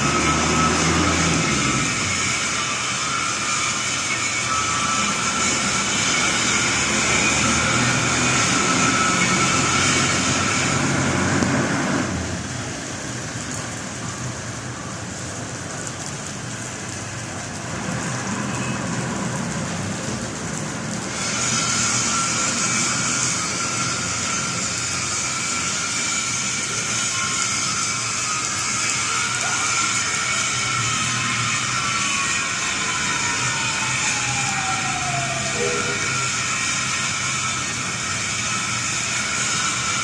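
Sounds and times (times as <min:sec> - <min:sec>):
rain hissing: 0:00.0 - 0:40.0
street traffic noise: 0:00.0 - 0:40.0.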